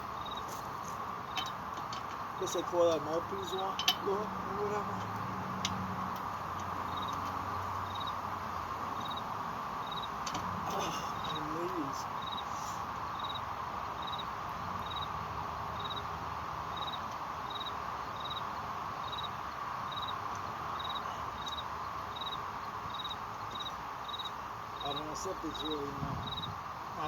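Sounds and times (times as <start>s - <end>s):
cricket chirping: 0.0s - 27.0s
steady background hiss: 0.0s - 27.0s.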